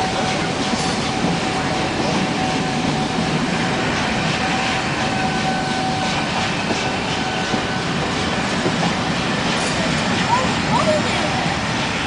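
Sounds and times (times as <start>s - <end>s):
train rumbling and rattling on track: 0.0s - 12.0s.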